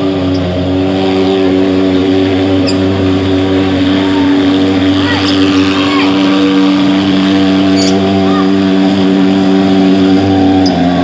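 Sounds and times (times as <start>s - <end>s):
fogging machine droning: 0.0s - 11.0s.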